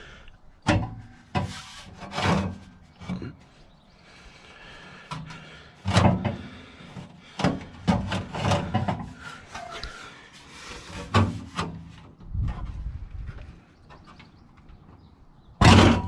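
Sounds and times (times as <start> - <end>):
exhaust parts knocking and scraping: 0.6 - 3.6, 4.8 - 16.0.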